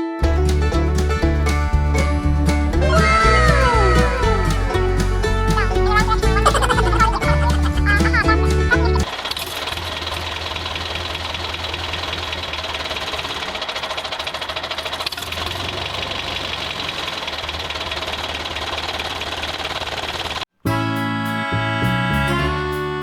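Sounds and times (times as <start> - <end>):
small engine knocking: 0.2 - 20.4.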